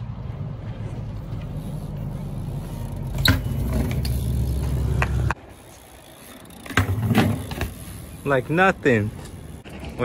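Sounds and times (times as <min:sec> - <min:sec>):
bike tyres rolling over concrete: 0:00.4 - 0:10.0.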